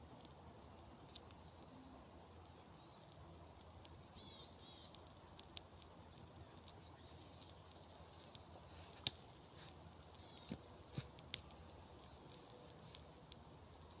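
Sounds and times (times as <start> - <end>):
small bird chirping: 0.0 - 14.0
faint sharp clicks: 0.1 - 14.0.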